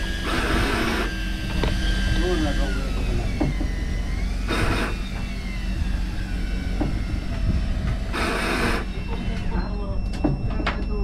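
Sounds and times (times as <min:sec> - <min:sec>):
boat engine humming: 0:00.0 - 0:11.0
faint wavering whine: 0:00.0 - 0:11.0.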